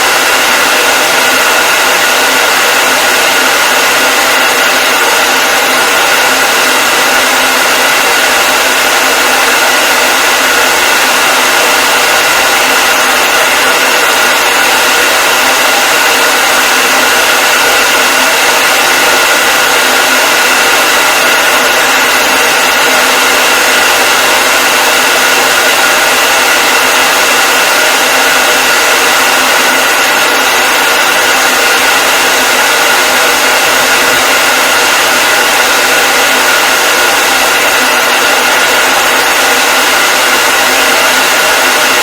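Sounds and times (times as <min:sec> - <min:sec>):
hair dryer running: 0:00.0 - 0:42.0.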